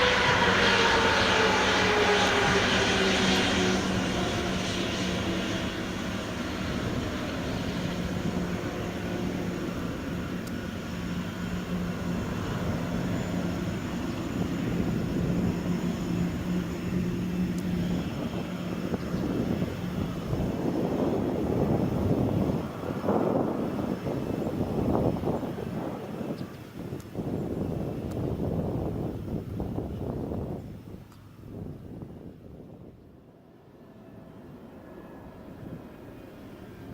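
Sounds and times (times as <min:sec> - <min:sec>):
jet engines humming: 0:00.0 - 0:36.9.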